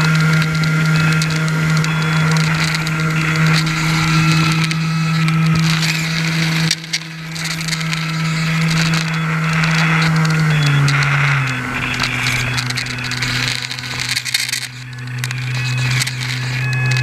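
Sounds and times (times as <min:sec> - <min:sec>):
electric motor and propeller running: 0:00.0 - 0:17.0.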